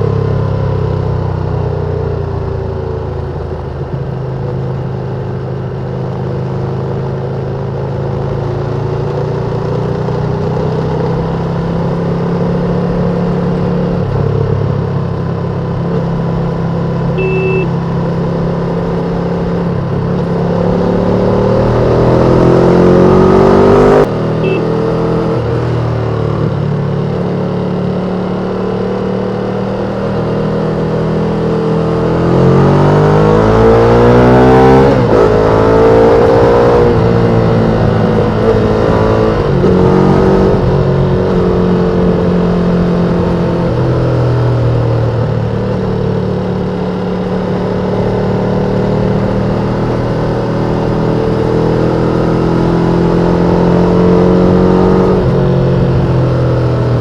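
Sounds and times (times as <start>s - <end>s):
motorcycle engine revving: 7.5s - 57.0s.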